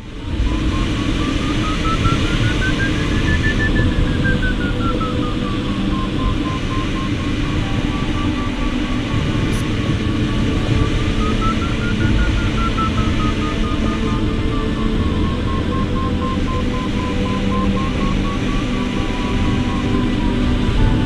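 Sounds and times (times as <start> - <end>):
airflow noise in cockpit: 0.0 - 21.0.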